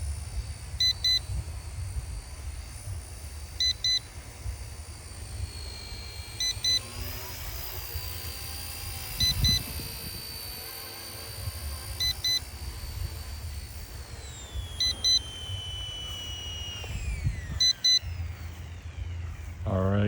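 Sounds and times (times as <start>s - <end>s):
wind rumble on microphone: 0.0s - 6.4s, 7.0s - 20.0s
helicopter motor and rotor whining: 0.0s - 20.0s.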